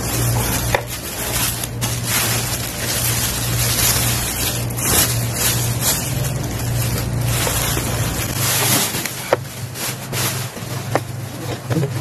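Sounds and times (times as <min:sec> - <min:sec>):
plastic bag rustling: 0:00.0 - 0:12.0
steady low hum: 0:00.0 - 0:12.0.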